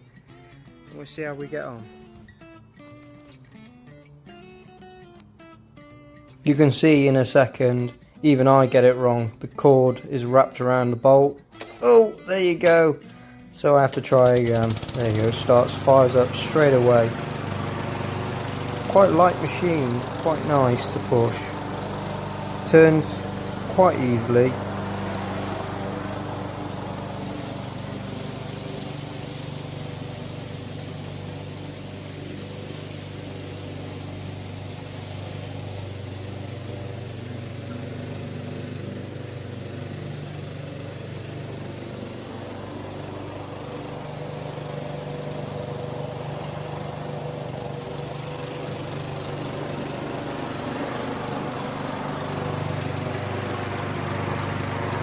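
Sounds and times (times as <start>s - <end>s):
petrol lawn mower running: 6.4s - 55.0s.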